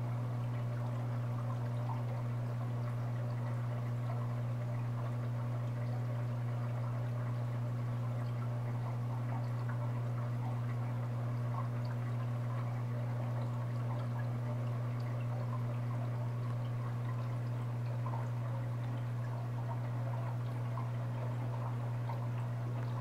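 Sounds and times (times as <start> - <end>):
aquarium pump humming: 0.0 - 23.0
water trickling and bubbling: 0.0 - 23.0.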